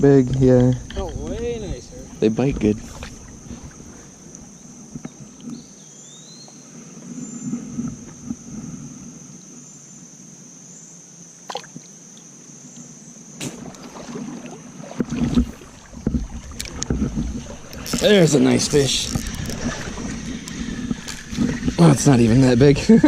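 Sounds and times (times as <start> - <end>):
moving water: 0.0 - 9.4, 11.4 - 23.0
insect drone: 0.0 - 23.0.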